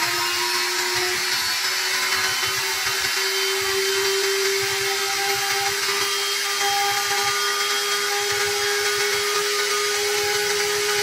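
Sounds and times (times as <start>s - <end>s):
router engraving wood: 0.0s - 11.0s.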